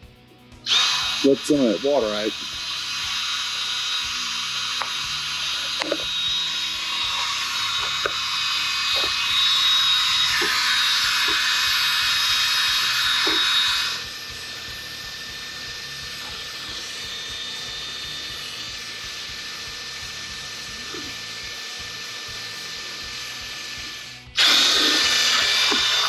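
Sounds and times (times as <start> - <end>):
power drill whining: 0.6 - 26.0.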